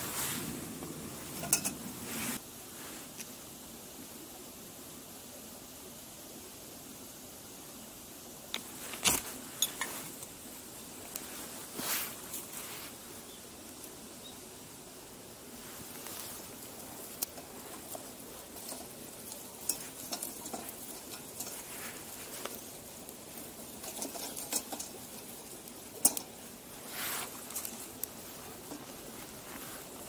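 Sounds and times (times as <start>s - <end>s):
campfire crackling and popping: 0.0s - 2.4s, 8.3s - 30.0s
steady fire hiss: 0.0s - 30.0s.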